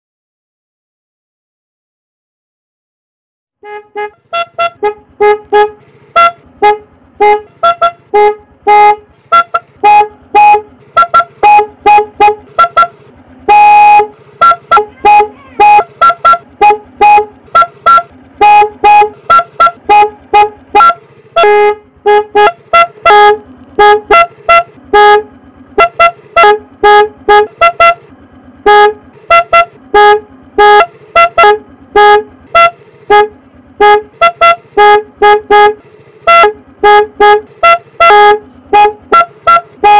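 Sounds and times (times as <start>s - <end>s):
motorcycle horn toots: 3.6s - 39.9s.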